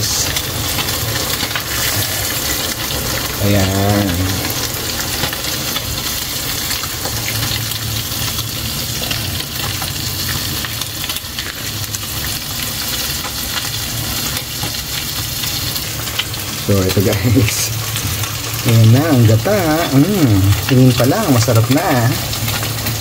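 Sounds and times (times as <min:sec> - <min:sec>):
coconut milk pouring: 0:00.0 - 0:23.0
pot simmering with sizzling hiss: 0:00.0 - 0:23.0.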